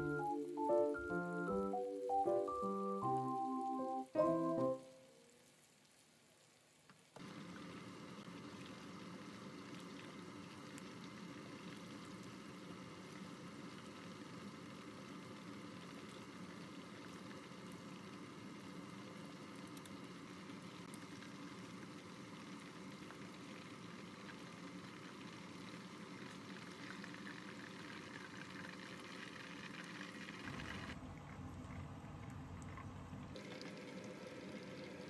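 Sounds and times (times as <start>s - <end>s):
food deep-frying in sizzling oil: 2.0s - 31.0s, 33.3s - 35.0s.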